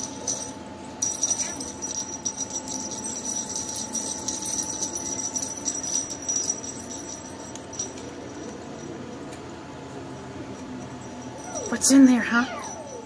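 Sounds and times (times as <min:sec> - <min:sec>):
cat collar bell jingling: 0:00.0 - 0:13.0.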